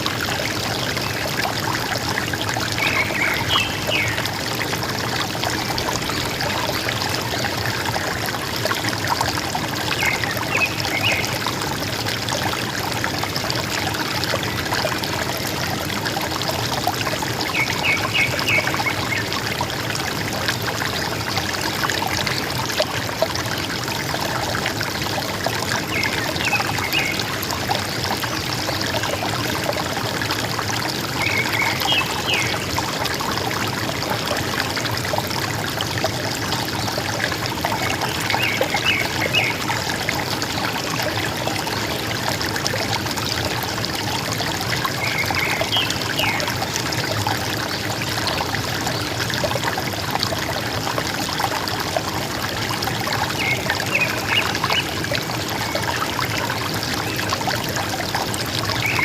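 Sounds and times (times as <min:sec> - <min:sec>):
river water gurgling: 0:00.0 - 0:59.0.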